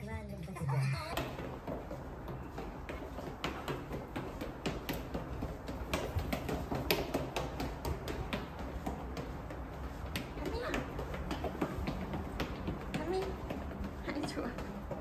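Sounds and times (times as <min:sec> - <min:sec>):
footsteps on tiled floor: 0:00.1 - 0:15.0.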